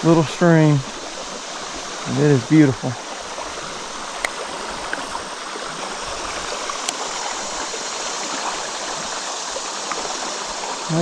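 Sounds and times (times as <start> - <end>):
creek water rippling: 0.0 - 11.0.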